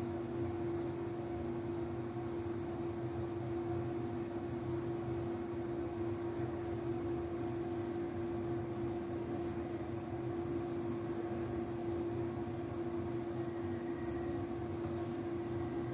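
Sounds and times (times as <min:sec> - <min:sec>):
machine hum: 0:00.0 - 0:15.9.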